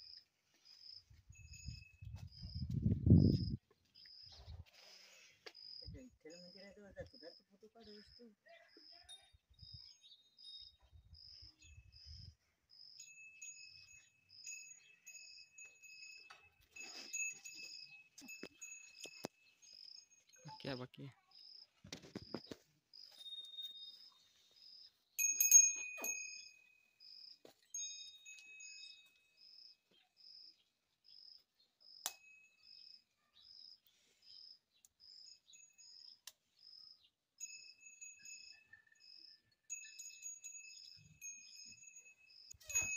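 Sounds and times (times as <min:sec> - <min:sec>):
cricket chirping: 0:00.0 - 0:04.4, 0:05.2 - 0:42.9.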